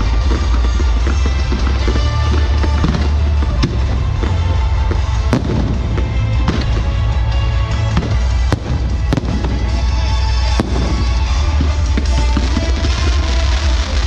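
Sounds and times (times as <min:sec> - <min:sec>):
fireworks crackling: 0:00.0 - 0:14.0
sharp firework bangs: 0:00.1 - 0:14.0.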